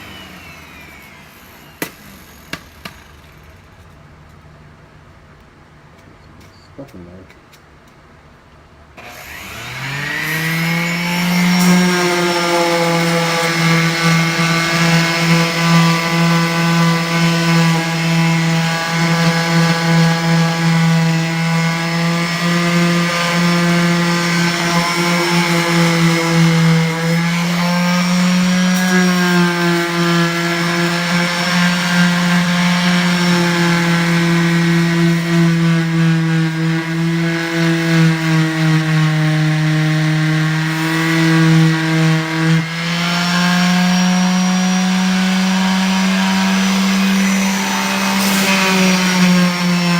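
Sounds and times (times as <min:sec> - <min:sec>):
electric power tool whining: 0:00.0 - 0:04.1, 0:09.0 - 0:49.9.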